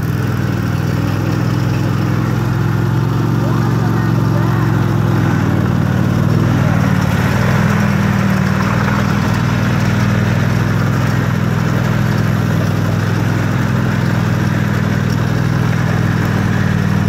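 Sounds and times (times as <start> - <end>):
small mower engine running: 0.0 - 17.0.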